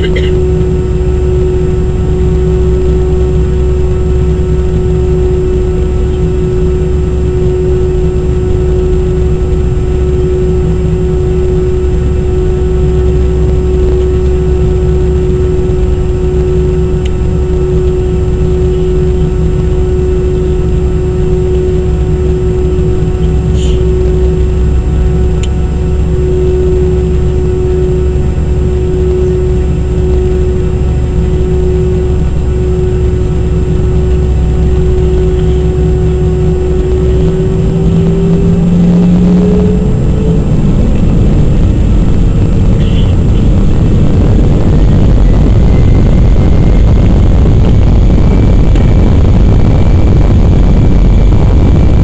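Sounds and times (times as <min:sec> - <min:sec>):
jet engines roaring in cabin: 0:00.0 - 0:52.0.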